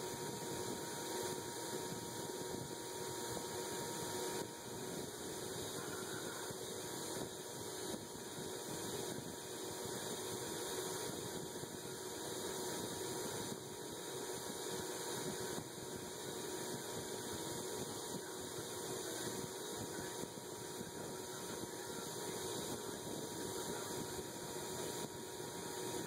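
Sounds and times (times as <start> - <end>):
faint motor hum: 0.0 - 26.0.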